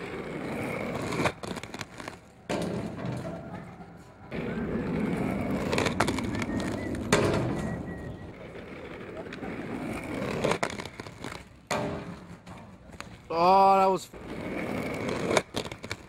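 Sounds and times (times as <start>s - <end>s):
skate wheels rolling on concrete: 0.0s - 16.0s.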